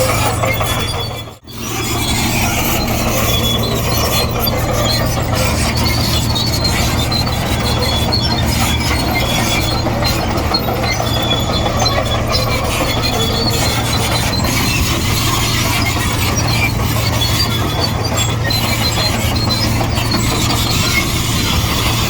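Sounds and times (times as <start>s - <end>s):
bulldozer diesel engine under load: 0.0s - 22.0s
steel tracks squealing: 0.0s - 22.0s.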